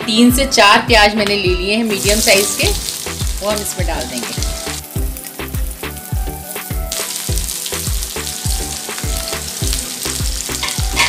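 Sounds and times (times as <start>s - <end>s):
background music with low beat: 0.0s - 11.0s
onions sizzling in oil: 1.8s - 11.0s.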